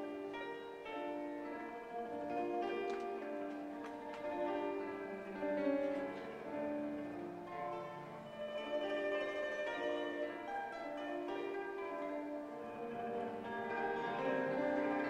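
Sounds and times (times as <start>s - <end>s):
plucked string music: 0.0s - 15.0s.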